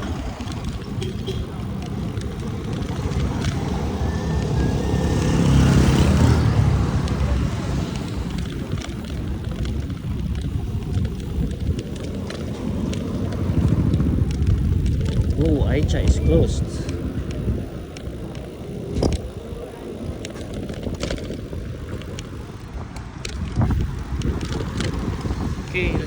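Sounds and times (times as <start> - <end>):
bicycle rolling noise: 0.0 - 26.0
wind buffeting microphone: 0.0 - 26.0.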